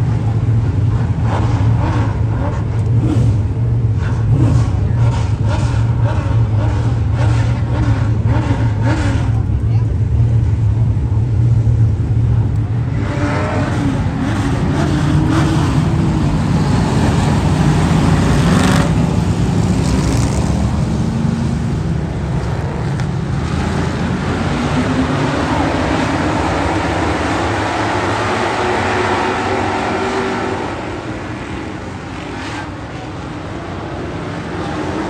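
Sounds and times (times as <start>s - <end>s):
racing engines revving: 0.0s - 35.0s.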